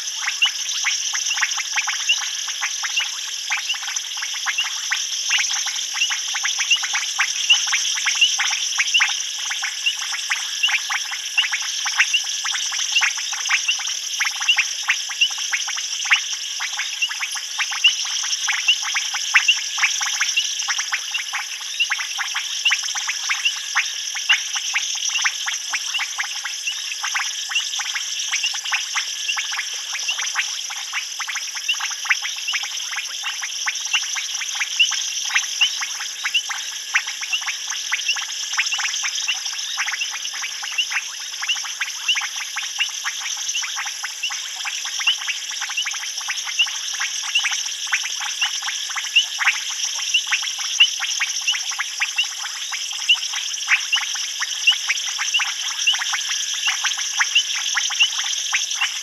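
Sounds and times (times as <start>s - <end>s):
frogs clicking and chirping: 0.0s - 59.0s.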